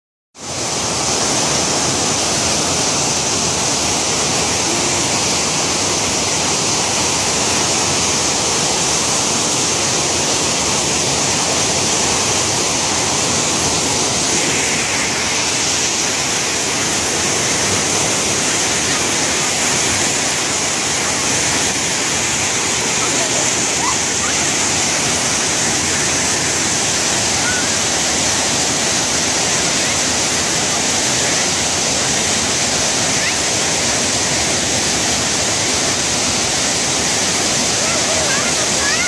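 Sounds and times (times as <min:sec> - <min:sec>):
waterfall roaring: 0:00.4 - 0:39.0.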